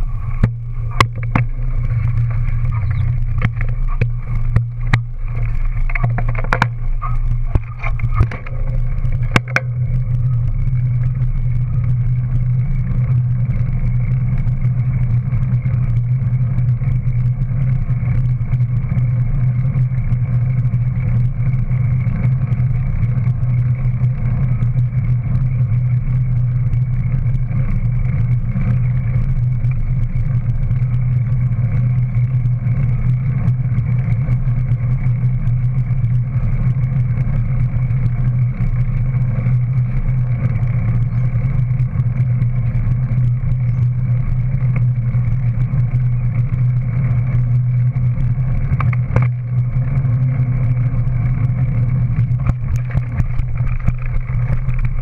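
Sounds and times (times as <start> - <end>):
bike rolling on road: 0.0 - 55.0.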